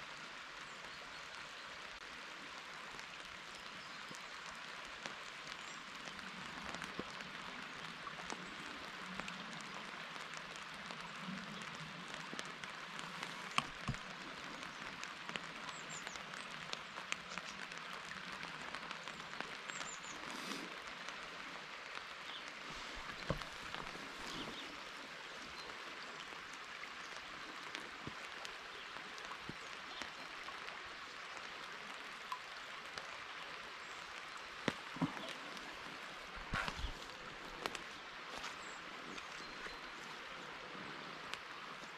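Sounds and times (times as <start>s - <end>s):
light rain hissing: 0.0s - 41.9s
raindrop ticks: 2.8s - 40.4s, 41.2s - 41.9s.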